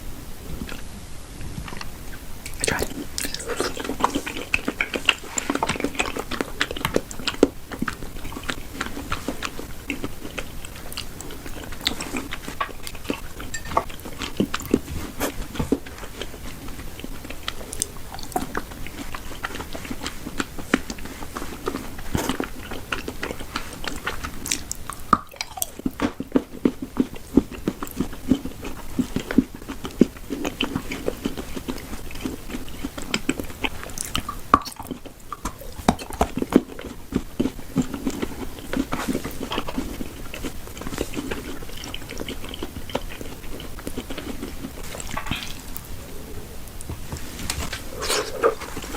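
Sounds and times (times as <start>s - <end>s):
chewing and biting food: 1.7s - 48.9s
wet mouth sounds: 1.7s - 48.9s.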